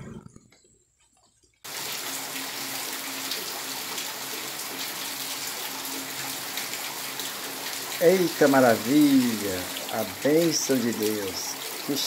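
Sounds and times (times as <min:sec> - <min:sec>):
heavy rain: 0:01.7 - 0:12.0.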